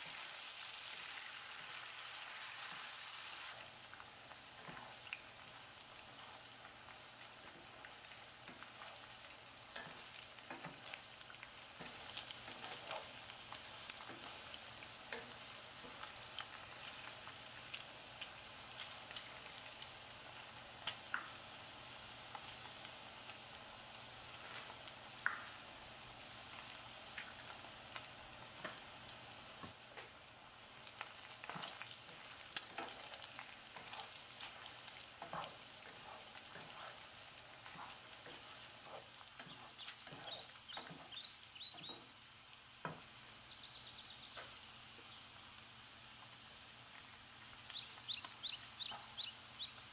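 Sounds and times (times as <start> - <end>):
meat sizzling and popping in oil: 0.0 - 49.9.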